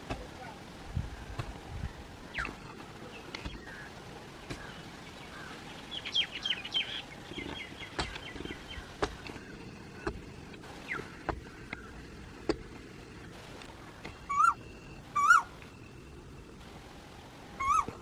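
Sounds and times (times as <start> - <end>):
outdoor background noise: 0.0 - 18.0
small birds chirping: 0.0 - 18.0.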